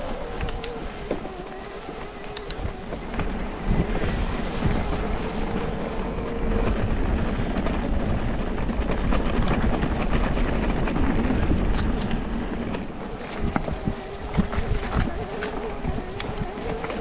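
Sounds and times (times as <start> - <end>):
bike tyres rumbling on rough track: 0.0 - 17.0.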